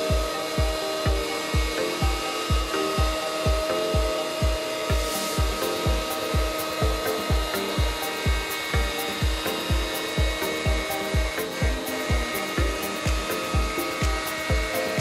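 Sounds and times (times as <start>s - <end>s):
electronic music with kick drum: 0.0s - 15.0s
router whining and hissing: 0.0s - 15.0s.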